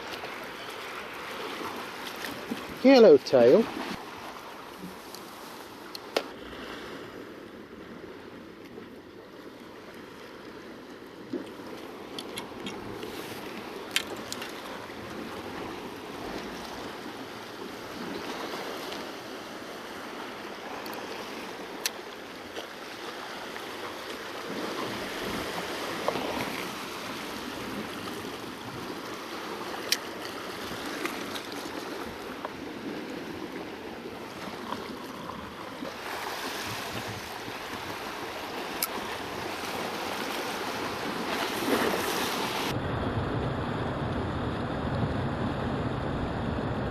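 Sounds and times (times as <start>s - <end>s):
waves washing against rocks: 0.0s - 7.3s, 11.5s - 42.8s.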